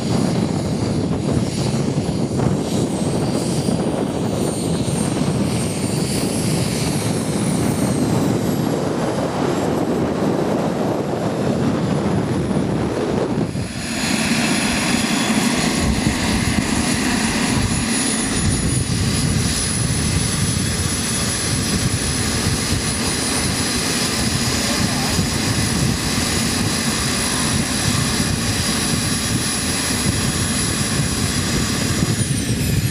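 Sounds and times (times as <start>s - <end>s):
model jet turbines whining: 0.0s - 32.9s.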